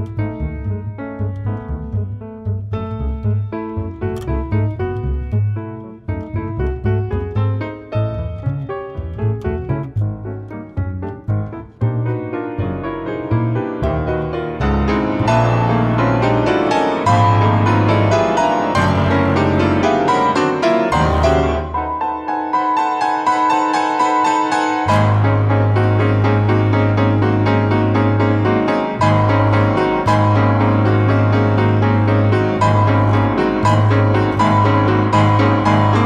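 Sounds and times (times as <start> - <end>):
piano playing: 0.0 - 36.0.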